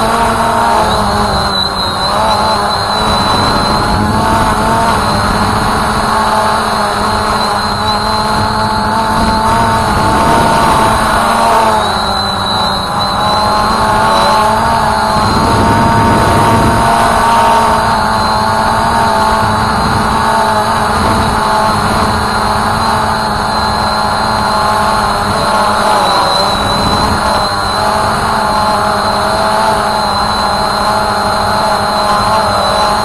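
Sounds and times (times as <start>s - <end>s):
drone motors and propellers whining: 0.0s - 33.0s.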